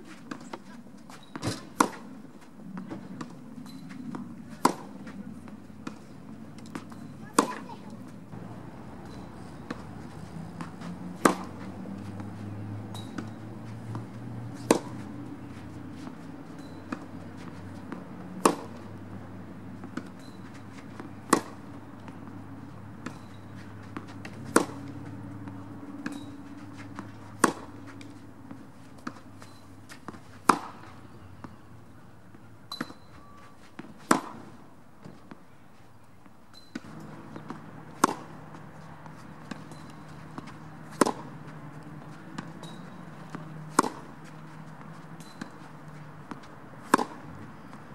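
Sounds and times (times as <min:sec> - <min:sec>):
tennis ball bounces: 0:01.2 - 0:35.4, 0:36.5 - 0:47.9
tennis balls struck by racquets: 0:01.2 - 0:35.4, 0:36.5 - 0:47.9.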